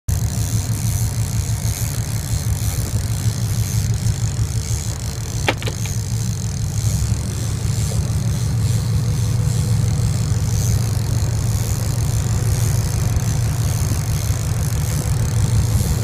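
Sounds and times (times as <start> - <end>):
boat engines droning: 0.1 - 16.0.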